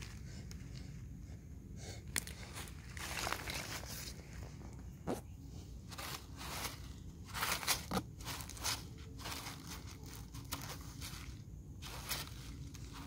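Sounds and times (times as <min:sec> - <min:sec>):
rustling and crunching leaves: 0:00.0 - 0:01.4, 0:02.0 - 0:13.0.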